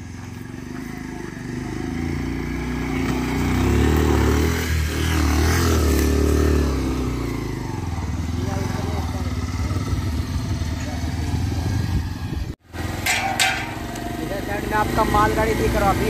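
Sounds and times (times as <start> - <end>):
motorcycle engine passing by: 0.0 - 16.0.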